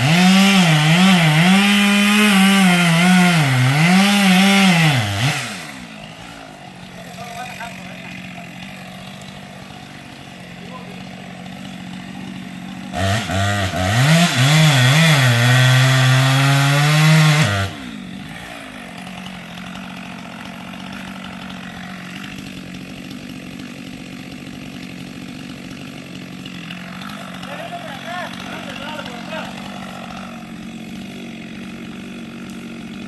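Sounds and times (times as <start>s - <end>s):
two-stroke chainsaw revving: 0.0s - 33.0s.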